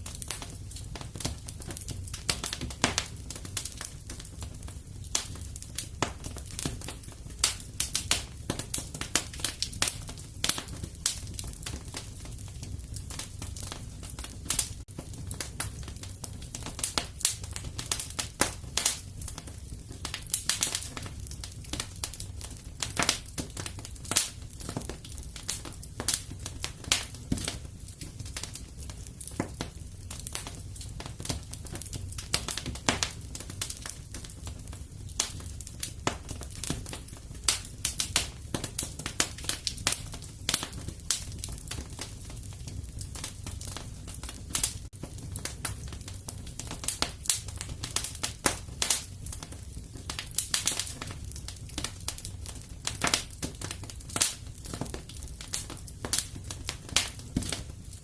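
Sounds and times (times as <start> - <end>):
fire crackling in fireplace: 0.0 - 58.0.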